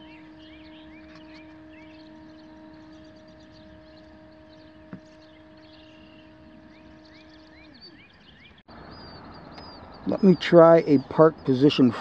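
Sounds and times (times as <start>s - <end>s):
falling whine: 0.0s - 11.5s
drive motors humming: 0.0s - 12.0s
small birds chirping: 0.0s - 12.0s.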